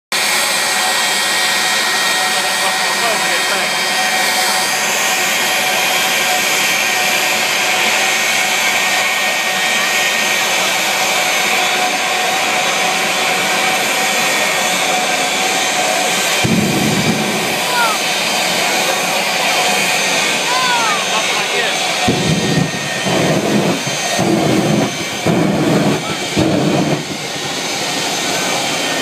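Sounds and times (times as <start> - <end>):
jet turbine engine running: 0.2 - 29.0.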